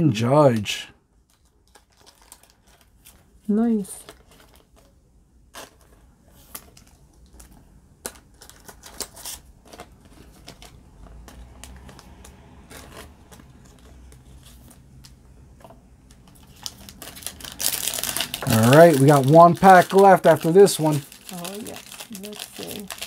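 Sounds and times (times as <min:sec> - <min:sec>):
plastic sleeves crinkling: 0:01.2 - 0:23.0.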